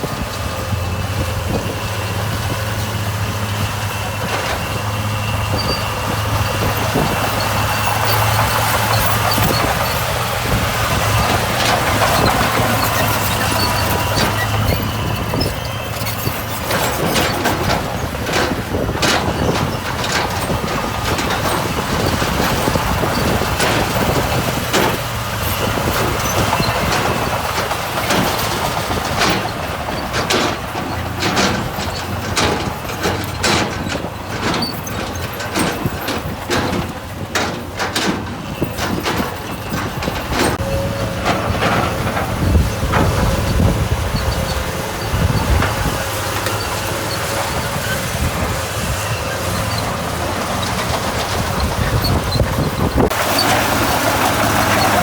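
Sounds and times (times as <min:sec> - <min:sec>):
diesel engine running: 0:00.0 - 0:55.0
machinery clanking and scraping on gravel: 0:00.0 - 0:55.0.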